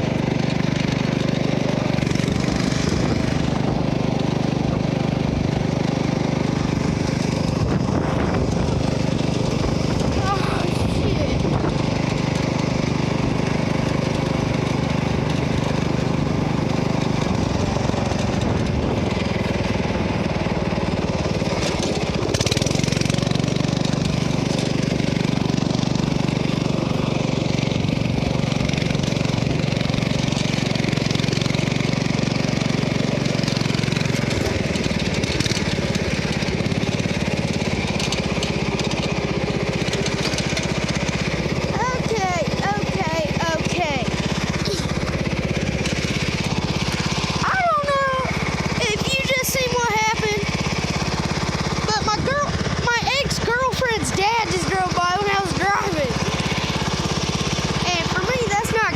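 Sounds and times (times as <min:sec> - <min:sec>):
riding lawnmower engine humming: 0:00.0 - 0:58.9.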